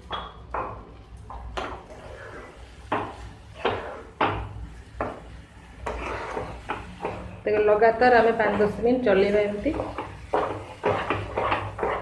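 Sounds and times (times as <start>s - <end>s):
spatula scraping and knocking a pan: 0.0s - 12.0s.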